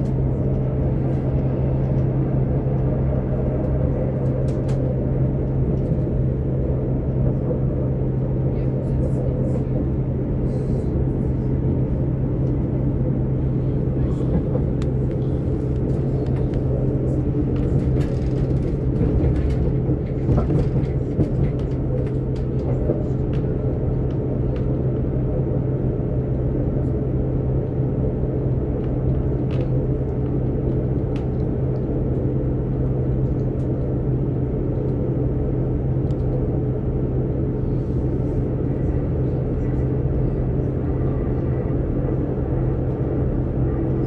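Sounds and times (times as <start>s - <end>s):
train drone and rumble: 0.0s - 44.0s.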